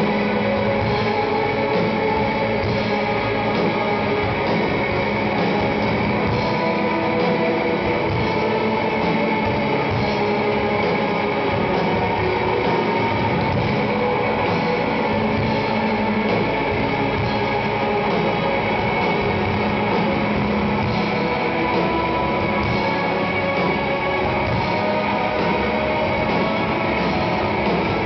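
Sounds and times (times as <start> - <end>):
post-rock band playing live: 0.0 - 28.0
sustained electric guitars: 0.0 - 28.0.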